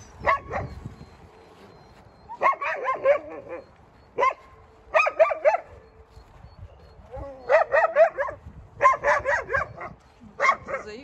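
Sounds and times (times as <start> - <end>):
wolves yipping and barking: 0.0 - 11.0.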